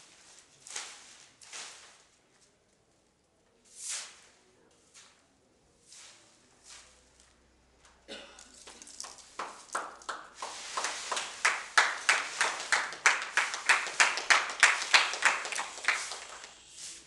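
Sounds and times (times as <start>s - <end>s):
broom sweeping leaves on hard floor: 0.0s - 2.6s, 3.6s - 7.4s, 8.6s - 17.0s.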